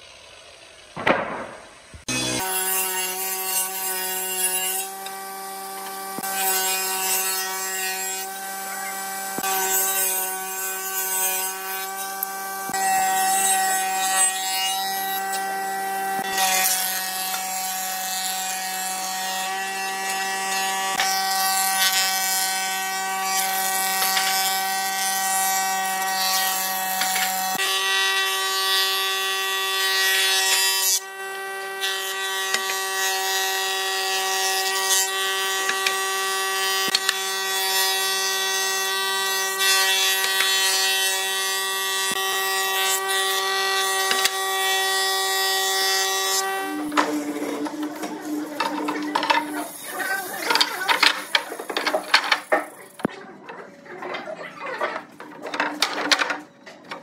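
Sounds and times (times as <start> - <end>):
thickness planer motor hum: 0.0 - 53.1
planer cutterhead shaving boards: 0.0 - 57.0.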